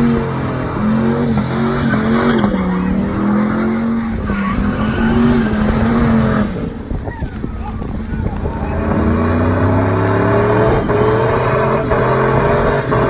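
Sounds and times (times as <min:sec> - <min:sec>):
tires squealing on pavement: 0:00.0 - 0:13.0
truck engine at high revs: 0:00.0 - 0:13.0.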